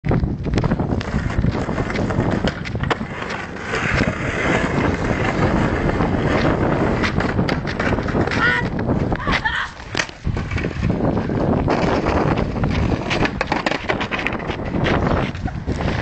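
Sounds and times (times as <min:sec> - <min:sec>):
skateboard wheels rolling on pavement: 0:00.0 - 0:16.0
wind on microphone: 0:00.0 - 0:16.0
skateboard clacks and knocks: 0:00.1 - 0:16.0.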